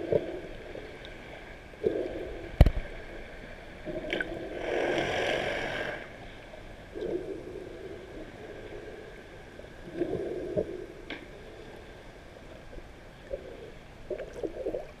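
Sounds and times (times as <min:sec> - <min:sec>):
underwater bubbling: 0:00.0 - 0:15.0.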